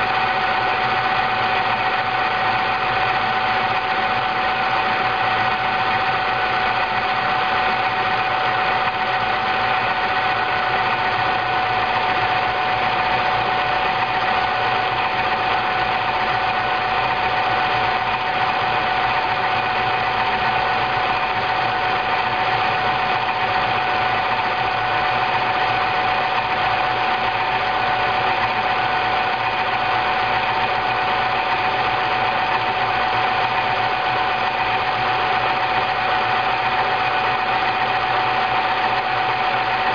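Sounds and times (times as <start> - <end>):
milk frother motor whining: 0.0 - 39.9.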